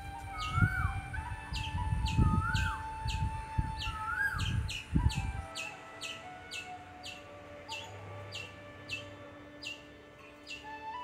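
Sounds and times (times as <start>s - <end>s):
bird chirping: 0.0s - 11.0s
soft instrumental music: 0.0s - 11.0s.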